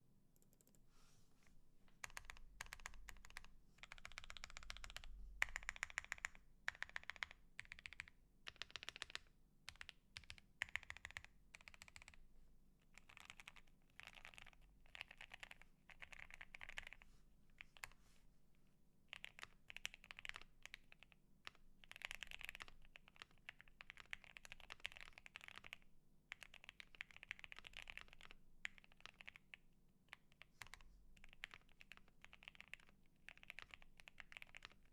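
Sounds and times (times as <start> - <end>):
mechanical keyboard typing: 2.0 - 12.2, 13.0 - 17.0, 19.1 - 34.9.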